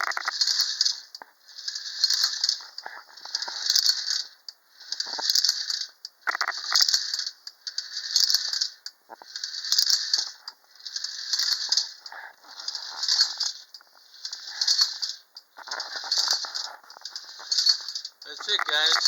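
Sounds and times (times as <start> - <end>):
wind-up toy tinny rattle: 0.0 - 4.3, 4.9 - 19.0.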